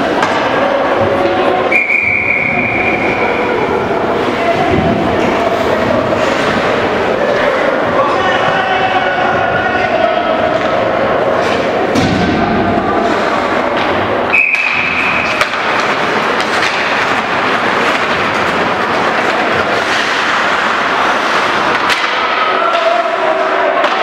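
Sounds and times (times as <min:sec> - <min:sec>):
hockey sticks and puck clacking: 0:00.0 - 0:24.0
skates scraping ice: 0:02.4 - 0:12.0, 0:12.7 - 0:24.0.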